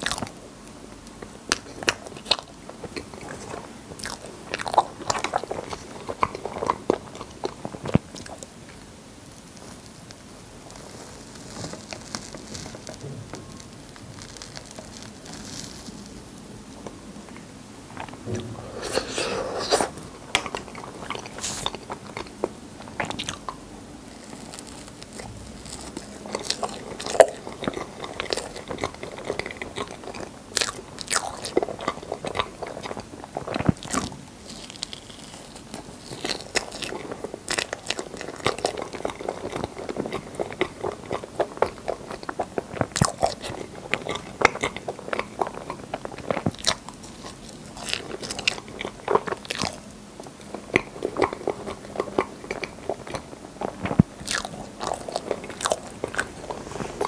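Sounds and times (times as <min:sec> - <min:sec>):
person chewing: 0:01.5 - 0:08.8, 0:09.5 - 0:57.0.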